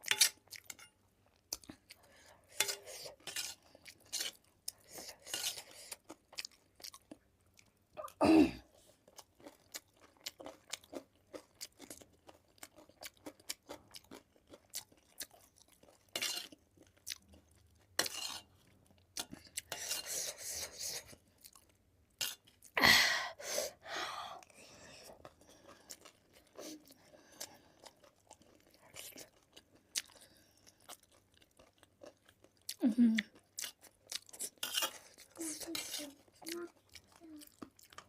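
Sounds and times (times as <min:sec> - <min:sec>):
person chewing crunchy food: 0:00.0 - 0:22.8, 0:24.4 - 0:38.0.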